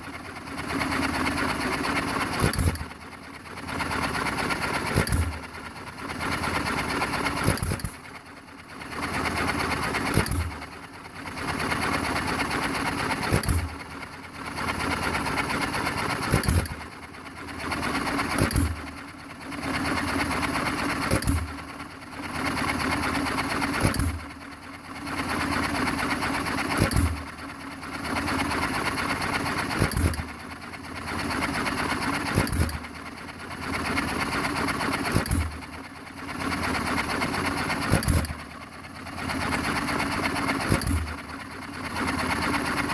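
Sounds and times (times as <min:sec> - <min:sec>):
hit-and-miss engine firing: 0:00.7 - 0:03.0, 0:03.6 - 0:08.2, 0:08.9 - 0:10.7, 0:11.4 - 0:17.0, 0:17.6 - 0:19.0, 0:19.7 - 0:21.7, 0:22.4 - 0:24.4, 0:25.2 - 0:27.4, 0:28.0 - 0:33.0, 0:33.6 - 0:42.9.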